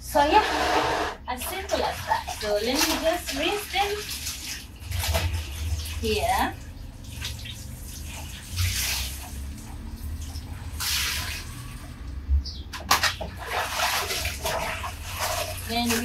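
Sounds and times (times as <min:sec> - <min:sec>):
water splashing in basin: 0:01.3 - 0:16.0.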